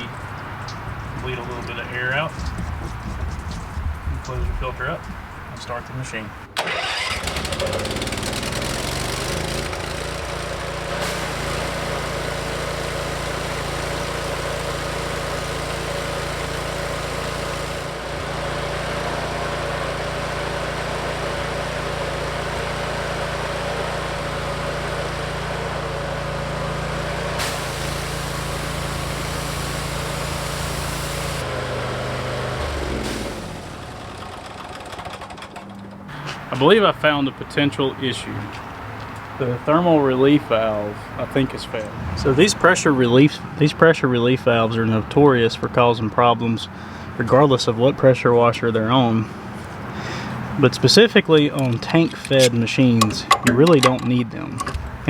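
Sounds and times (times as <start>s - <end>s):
pressure washer engine running: 0.0s - 3.6s, 6.6s - 45.5s, 49.3s - 55.0s.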